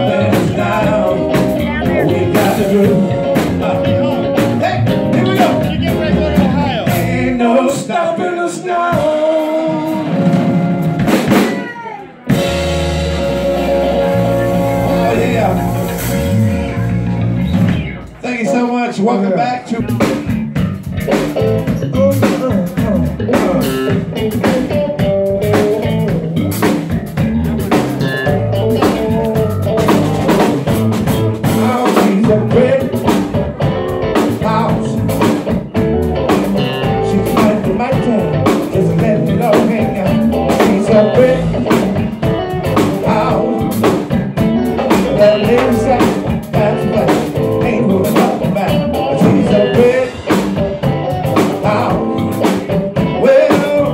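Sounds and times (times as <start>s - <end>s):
electric bass: 0.0s - 11.5s, 12.3s - 53.9s
drum kit beat: 0.0s - 53.9s
electric guitar: 0.0s - 53.9s.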